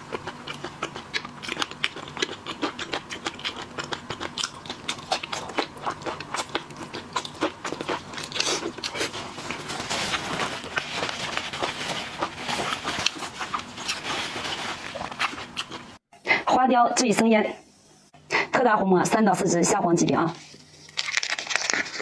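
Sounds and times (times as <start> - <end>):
crunching and chewing seafood: 0.0 - 16.0, 20.4 - 22.0.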